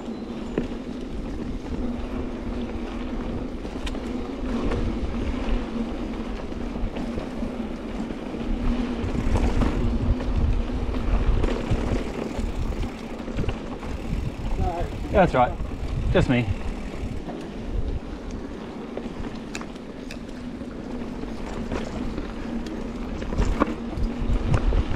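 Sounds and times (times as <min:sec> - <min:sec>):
bike clicks and rattles: 0:00.0 - 0:24.9
bike tyres on dirt trail: 0:00.0 - 0:24.9
wind rumbling on microphone: 0:00.0 - 0:24.9.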